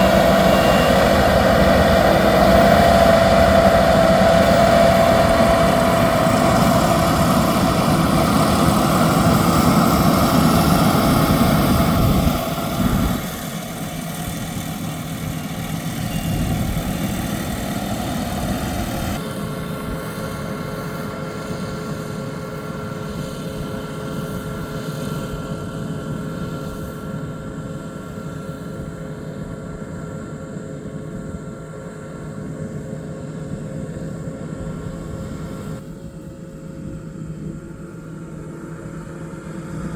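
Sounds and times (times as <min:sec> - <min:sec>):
combine harvester engine drone: 0:00.0 - 0:39.9
high steady whine: 0:00.0 - 0:39.9.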